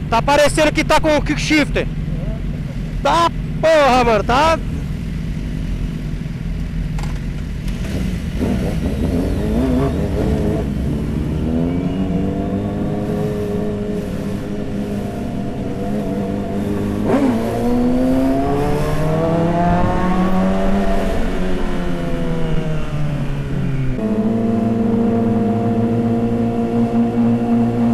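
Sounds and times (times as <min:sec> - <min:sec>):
motorcycle engine accelerating: 0:04.6 - 0:27.9.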